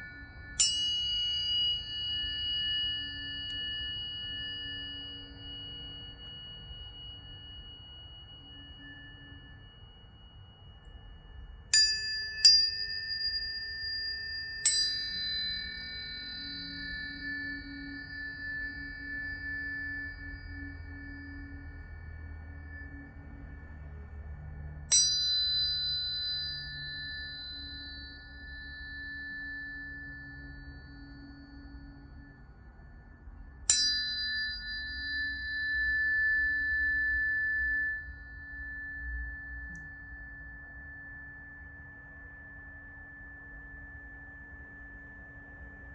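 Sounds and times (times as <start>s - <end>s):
tuning forks ringing: 0.0s - 45.9s.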